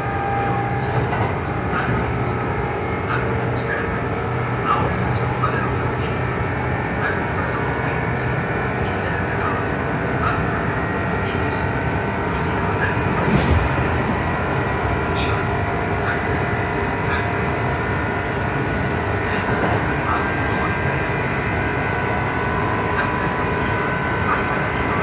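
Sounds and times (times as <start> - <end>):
train car rumble with whining motors: 0.0 - 25.0.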